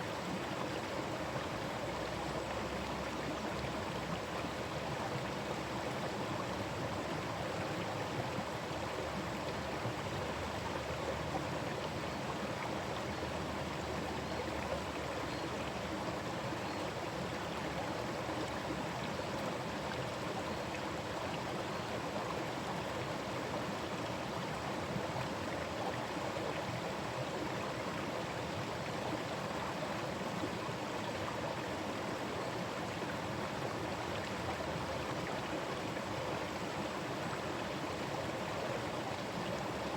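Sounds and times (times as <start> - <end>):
stream babbling over rocks: 0.1 - 39.9.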